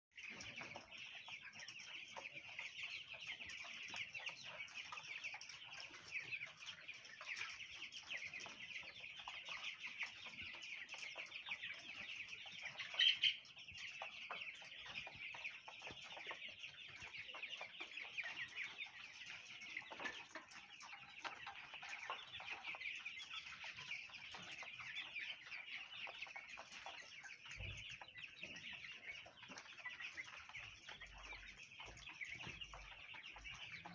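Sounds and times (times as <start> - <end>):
chicks peeping: 0.1 - 33.9.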